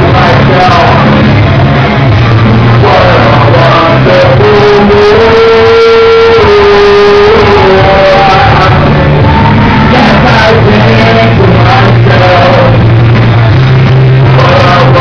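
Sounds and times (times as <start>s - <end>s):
people singing karaoke: 0.0s - 15.0s
rock backing track: 0.0s - 15.0s.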